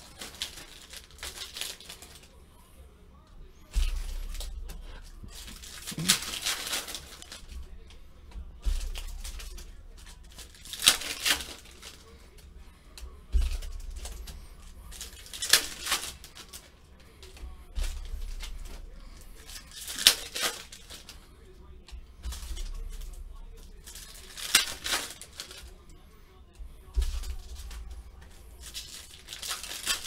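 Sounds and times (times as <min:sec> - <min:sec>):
foil wrapper crinkling: 0:00.0 - 0:02.4, 0:03.7 - 0:26.0, 0:26.9 - 0:30.0
foil wrapper ripping: 0:00.0 - 0:02.4, 0:03.8 - 0:08.0, 0:08.6 - 0:21.5, 0:22.2 - 0:25.8, 0:26.9 - 0:30.0.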